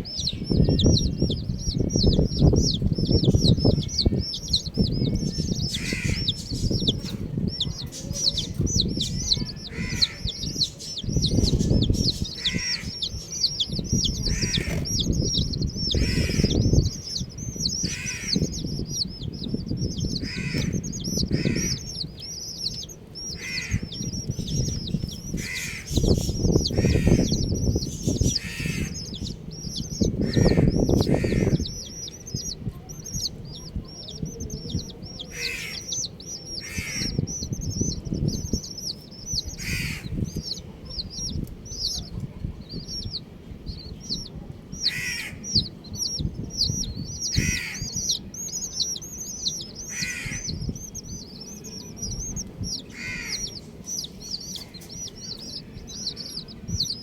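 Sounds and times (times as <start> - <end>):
baby chicks peeping: 0.0 - 57.0
low rumbling noise: 0.0 - 57.0.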